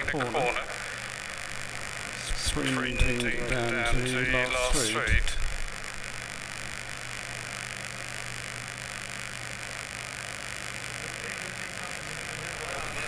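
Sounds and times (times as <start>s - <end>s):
constant hiss: 0.0s - 13.0s
electrical mains hum: 0.0s - 13.0s.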